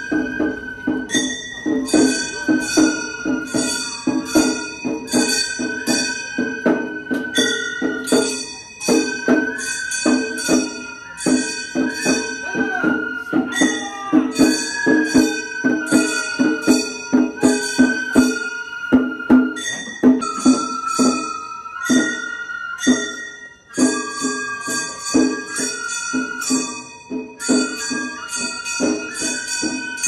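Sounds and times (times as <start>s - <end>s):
hand gongs clanging: 0.0s - 18.7s, 19.5s - 30.0s
bamboo flute sliding notes: 0.0s - 30.0s.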